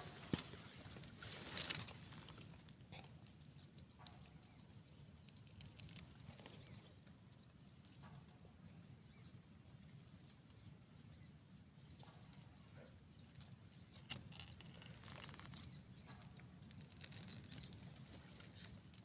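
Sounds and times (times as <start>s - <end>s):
light clicks and rustles: 0.0s - 9.3s, 11.9s - 19.0s
faint outdoor hum: 0.0s - 19.0s.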